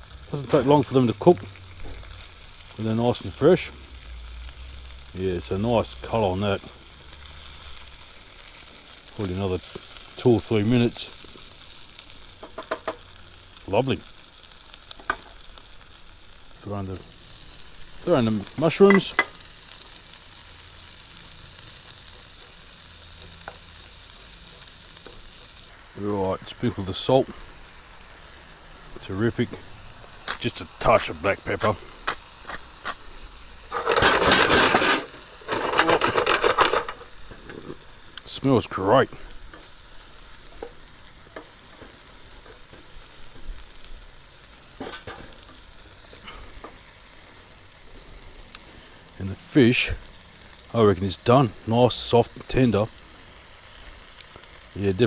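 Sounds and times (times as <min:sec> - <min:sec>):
fish sizzling in a frying pan: 0:00.0 - 0:55.0.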